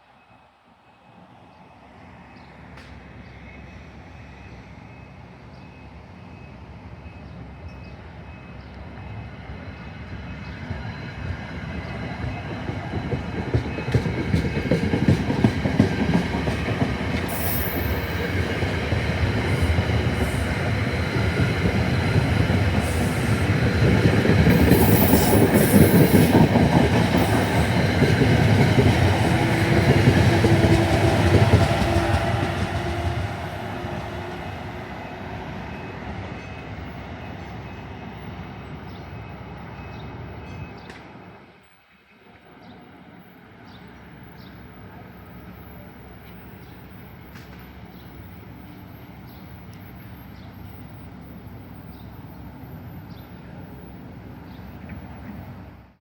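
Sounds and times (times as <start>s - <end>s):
train wheels rumbling on track: 2.0s - 56.0s.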